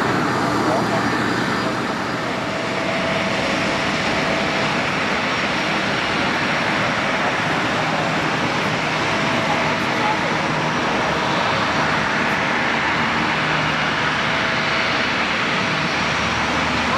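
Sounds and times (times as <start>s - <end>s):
jet engines running: 0.0s - 16.9s.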